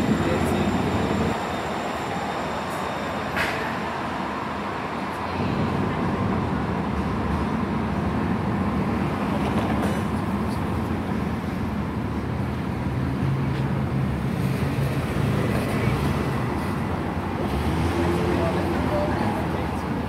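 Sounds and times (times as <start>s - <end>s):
city street traffic noise: 0.0s - 20.0s.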